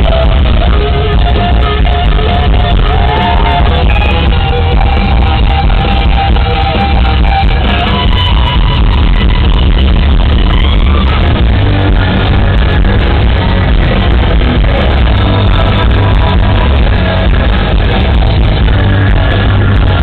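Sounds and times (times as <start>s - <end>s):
bending lead guitar line: 0.0s - 20.0s
live rock band playing: 0.0s - 20.0s.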